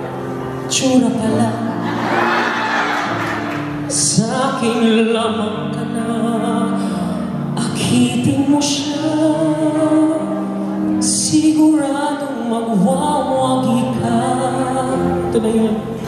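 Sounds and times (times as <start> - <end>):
song with singing voice: 0.0 - 16.0.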